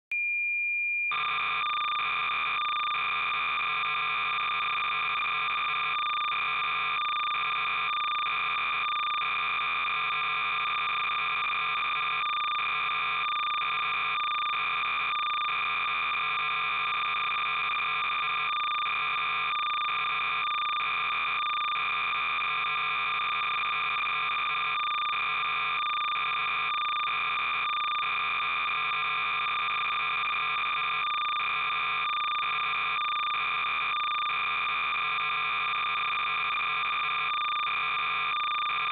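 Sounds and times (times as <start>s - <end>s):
pulsing electronic buzzing signal: 1.1s - 38.9s.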